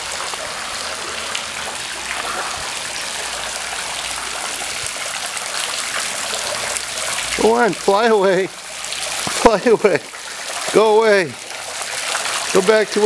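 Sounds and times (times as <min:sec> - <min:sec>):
hose spraying water into pool: 0:00.0 - 0:13.0.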